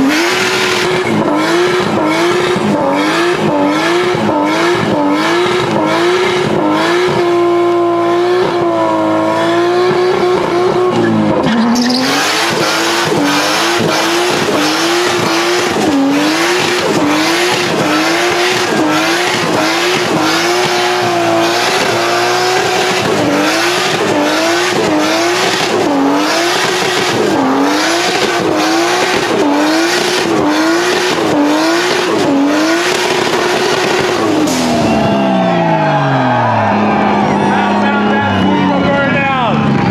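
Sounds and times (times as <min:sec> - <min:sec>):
car engine revving high: 0:00.0 - 0:39.9.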